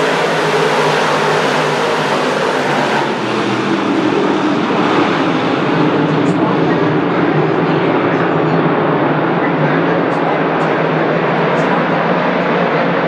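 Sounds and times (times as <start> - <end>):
race car engines blaring: 0.0 - 13.0.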